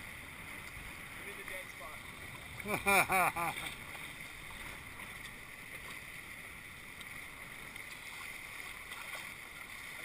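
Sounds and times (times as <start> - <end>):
water rushing along hulls: 0.0 - 10.0
wind: 0.0 - 10.0.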